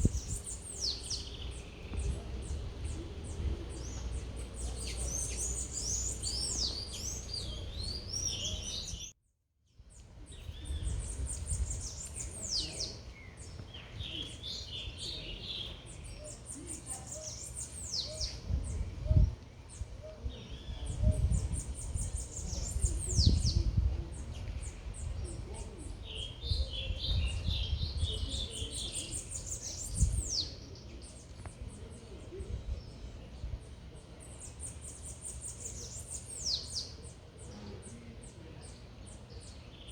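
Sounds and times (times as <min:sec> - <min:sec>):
low city rumble: 0:00.0 - 0:09.2, 0:09.9 - 0:39.9
songbirds chirping and twittering: 0:00.0 - 0:39.9.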